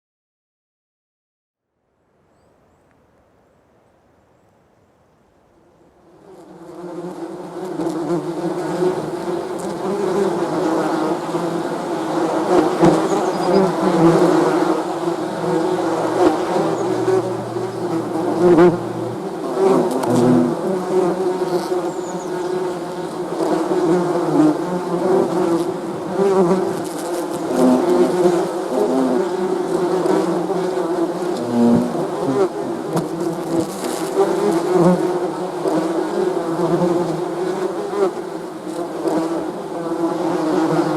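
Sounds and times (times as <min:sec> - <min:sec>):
bees buzzing: 0:06.3 - 0:40.9.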